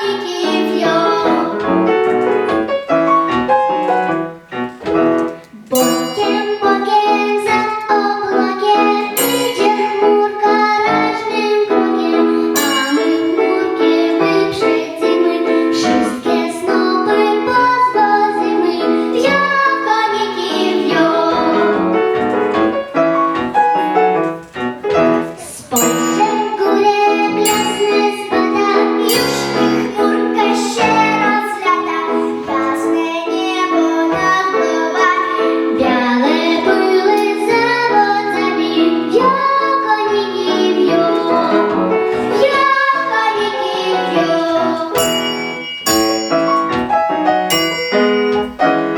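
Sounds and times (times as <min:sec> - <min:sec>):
young person singing: 0:00.0 - 0:02.1, 0:05.6 - 0:22.5, 0:25.4 - 0:46.9
piano accompaniment: 0:00.0 - 0:48.9.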